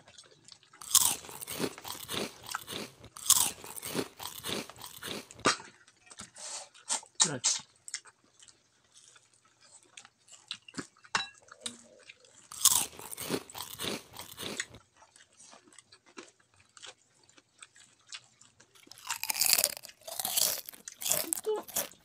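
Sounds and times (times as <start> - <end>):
person chewing and crunching: 0.1 - 5.5, 7.8 - 22.0.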